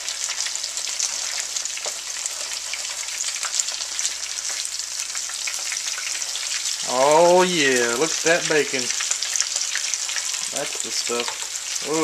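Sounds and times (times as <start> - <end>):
meat sizzling in grease: 0.0 - 12.0.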